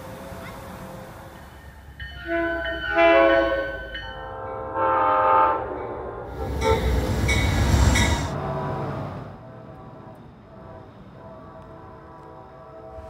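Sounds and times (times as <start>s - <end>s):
locomotive air horn blasts: 0.0s - 7.0s, 8.1s - 13.0s
locomotive rumbling past: 0.0s - 13.0s.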